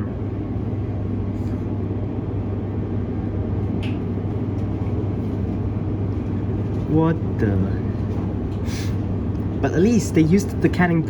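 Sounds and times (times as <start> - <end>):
train cabin hum: 0.0 - 11.0.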